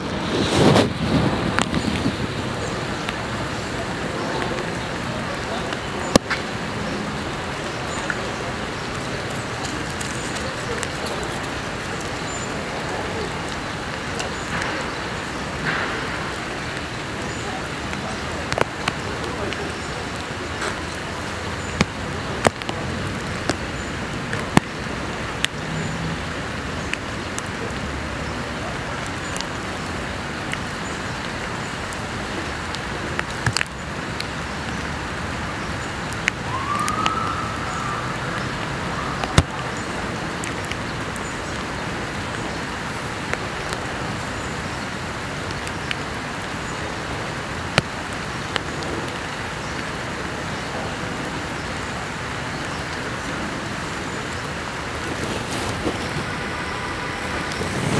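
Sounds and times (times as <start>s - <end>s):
city traffic hiss: 0.0s - 57.9s
raindrops tapping: 0.0s - 57.9s
steady rain: 0.0s - 57.9s.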